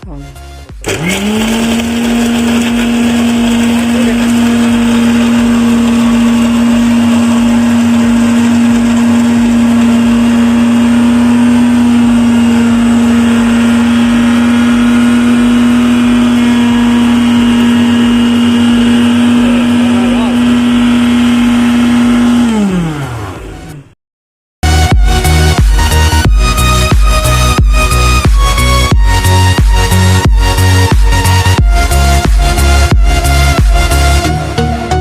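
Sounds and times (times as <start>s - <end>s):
mixer grinder motor humming: 0.6s - 24.0s, 24.6s - 35.0s.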